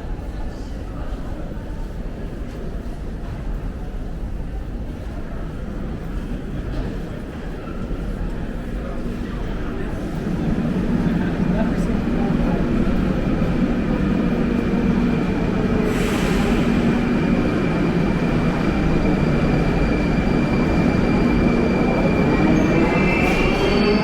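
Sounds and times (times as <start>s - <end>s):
train running in station: 0.0s - 24.0s.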